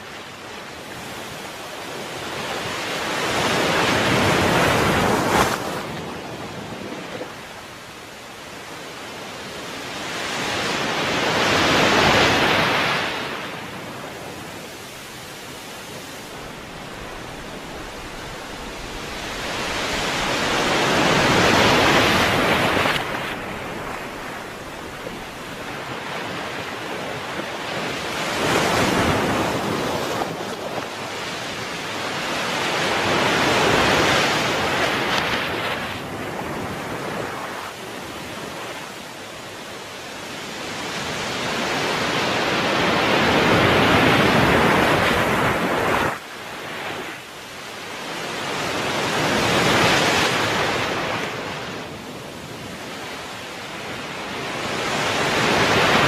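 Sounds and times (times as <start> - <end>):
small waves breaking on beach: 0.0 - 56.0.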